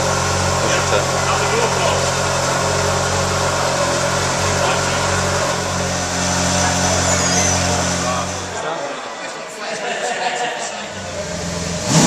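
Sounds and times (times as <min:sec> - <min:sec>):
car engine idling: 0:00.0 - 0:09.2, 0:10.9 - 0:12.0.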